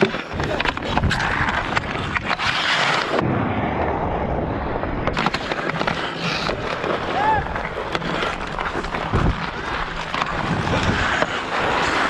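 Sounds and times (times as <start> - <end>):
hockey sticks clacking: 0.0 - 3.2, 5.1 - 12.0
skates scraping ice: 0.0 - 3.3, 5.0 - 12.0.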